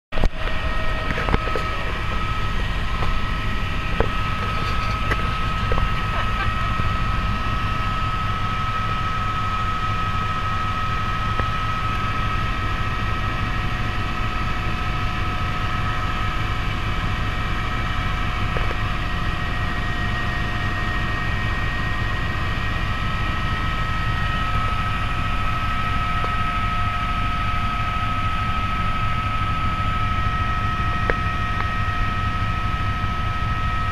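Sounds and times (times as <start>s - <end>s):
helicopter engine and rotor rumble: 0.1s - 33.9s
high-pitched whine: 0.2s - 33.9s.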